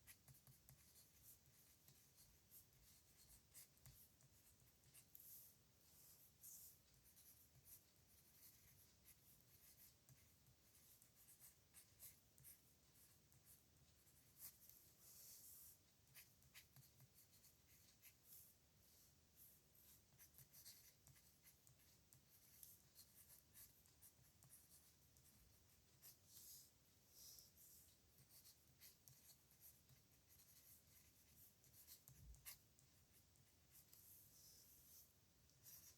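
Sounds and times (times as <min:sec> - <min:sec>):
pen scratching on paper: 0:00.0 - 0:35.9.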